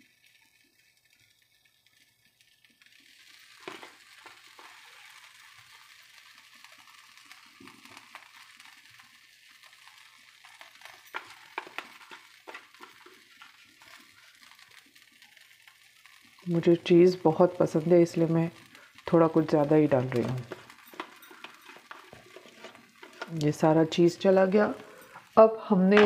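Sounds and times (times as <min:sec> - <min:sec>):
cheese sprinkled onto pizza: 0:00.0 - 0:26.0
faint steady hiss: 0:00.0 - 0:26.0.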